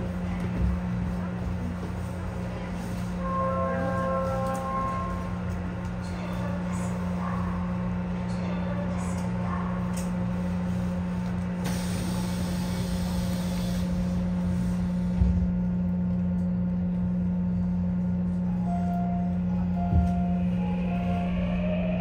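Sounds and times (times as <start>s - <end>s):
subway train hum and rumble: 0.0s - 22.0s.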